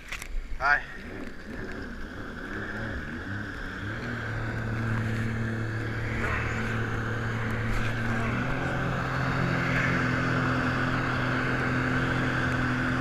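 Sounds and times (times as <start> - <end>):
jet ski engine running: 0.3 - 13.0.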